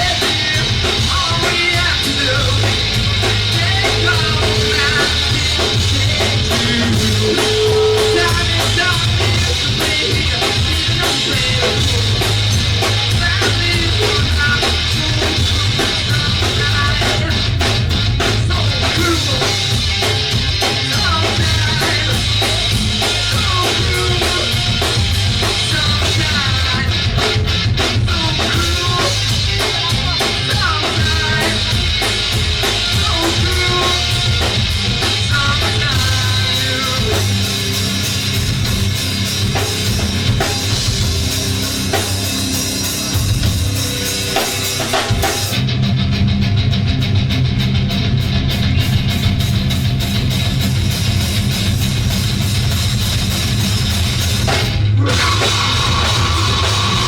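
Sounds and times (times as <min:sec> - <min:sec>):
heavy steady bass: 0:00.0 - 0:57.0
live band playing: 0:00.0 - 0:57.0.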